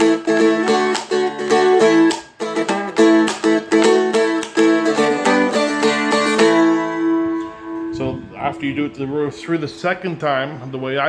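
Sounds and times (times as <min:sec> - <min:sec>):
dulcimer strummed and picked: 0:00.0 - 0:10.2.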